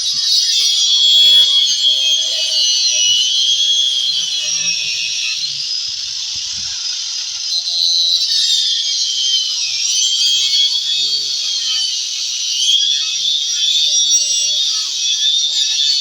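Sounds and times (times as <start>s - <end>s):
grinder cutting wood: 0.0s - 14.9s.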